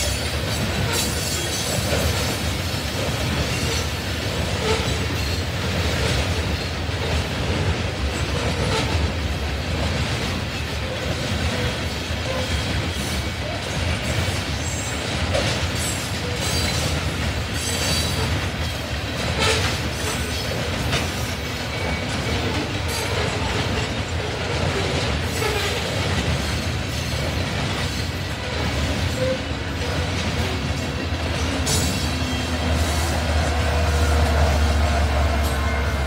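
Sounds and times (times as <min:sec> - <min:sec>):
steel wheels rumbling on rail: 0:00.0 - 0:36.0
train car clanks: 0:00.0 - 0:36.0.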